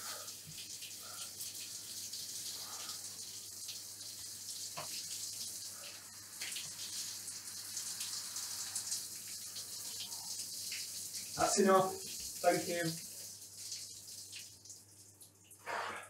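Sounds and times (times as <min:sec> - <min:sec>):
shower water spraying: 0:00.0 - 0:14.6.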